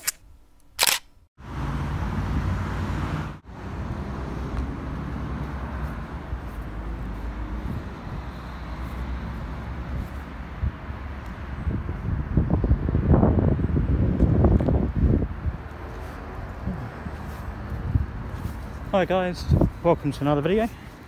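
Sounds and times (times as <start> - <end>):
wind rumbling on microphone: 1.8 - 21.0.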